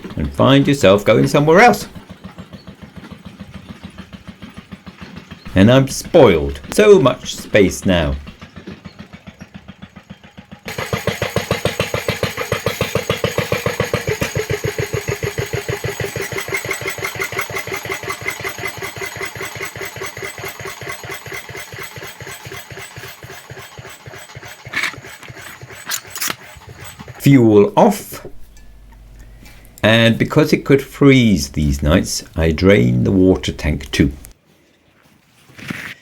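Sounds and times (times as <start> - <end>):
locomotive engine idling: 0.0 - 34.4.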